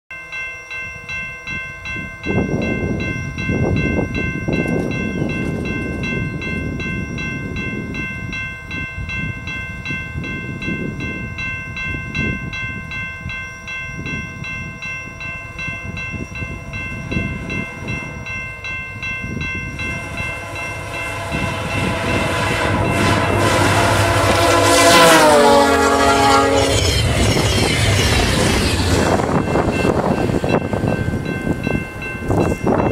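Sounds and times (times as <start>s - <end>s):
approaching passenger train: 0.1s - 32.9s
level crossing bell ringing: 0.1s - 32.9s.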